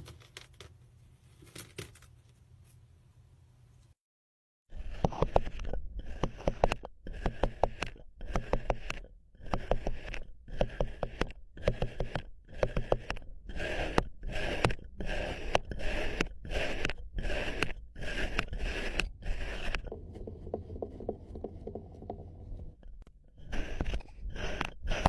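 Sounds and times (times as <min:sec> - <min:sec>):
sand being scraped: 0:04.8 - 0:25.0.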